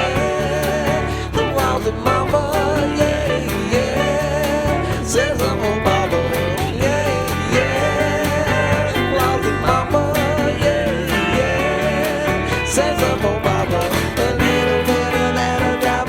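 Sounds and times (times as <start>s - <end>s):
upbeat country-rock song: 0.0s - 16.0s.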